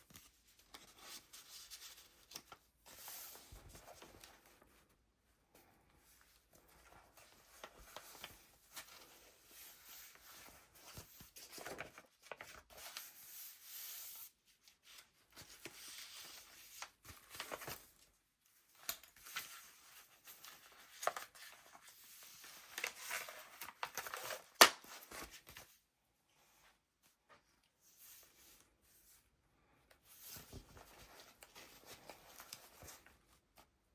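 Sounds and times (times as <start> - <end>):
paper rustling and crinkling: 0.0 - 5.0, 6.1 - 25.8, 30.0 - 33.7.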